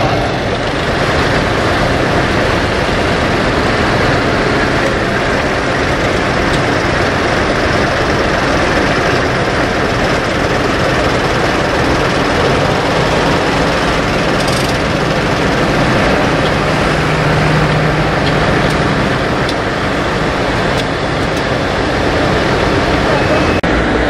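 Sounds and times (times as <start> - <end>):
tractor diesel engines idling: 0.0 - 24.0.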